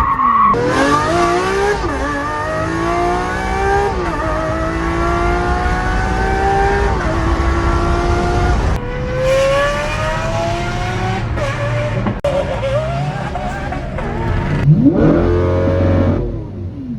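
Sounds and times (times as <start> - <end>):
sports car engine accelerating: 0.5 - 16.9.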